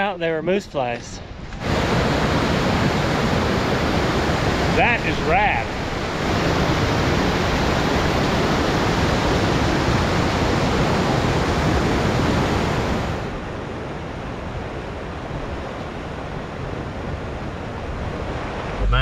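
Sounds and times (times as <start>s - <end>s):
dull rushing water: 1.2s - 19.0s.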